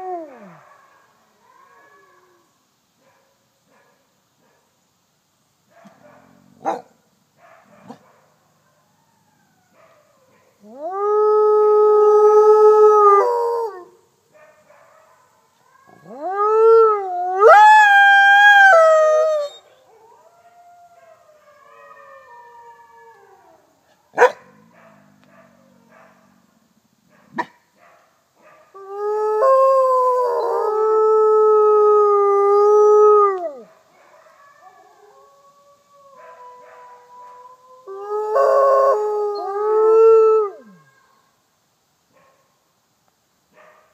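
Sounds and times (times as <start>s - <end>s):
faint howls of other wolves: 0.0s - 3.3s, 5.7s - 41.5s.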